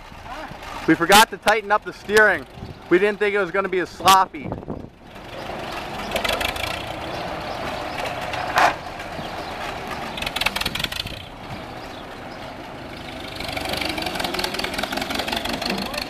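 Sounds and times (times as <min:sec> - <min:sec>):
tractor engine driving by: 0:00.0 - 0:16.0.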